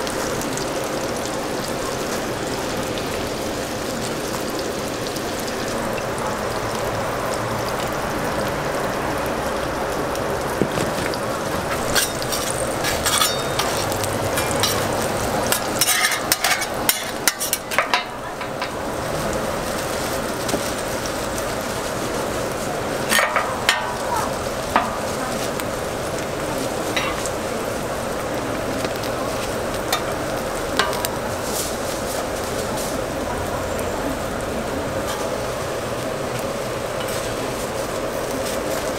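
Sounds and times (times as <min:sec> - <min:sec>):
burger patties sizzling: 0:00.0 - 0:38.9.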